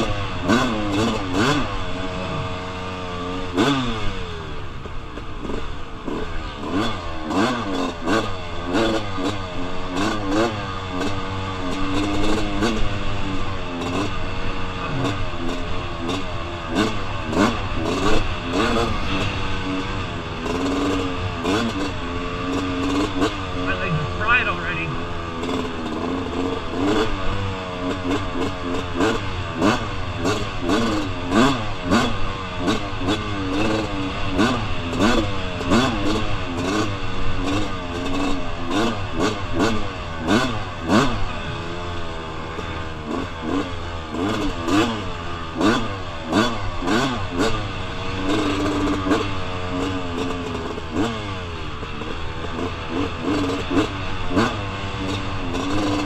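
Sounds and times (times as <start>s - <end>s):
two-stroke motorbike engine revving: 0.0s - 56.0s.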